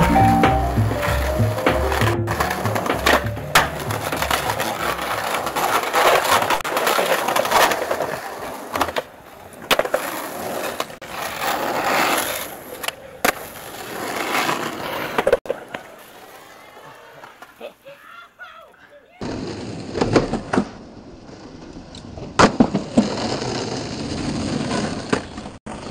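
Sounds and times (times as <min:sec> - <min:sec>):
skateboard clacking: 0:00.0 - 0:17.6, 0:22.0 - 0:25.9
skateboard wheels rolling on concrete: 0:00.0 - 0:25.9.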